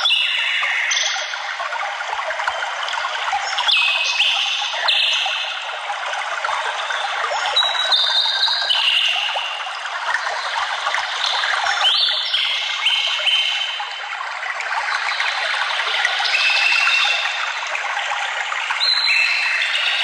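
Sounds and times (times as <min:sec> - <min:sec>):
water running steadily: 0:00.0 - 0:20.0.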